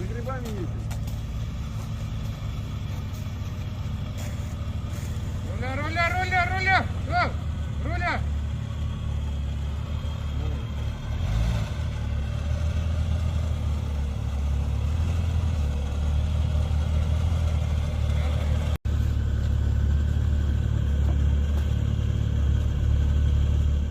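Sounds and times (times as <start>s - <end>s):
vehicle engine at low revs: 0.0s - 23.9s.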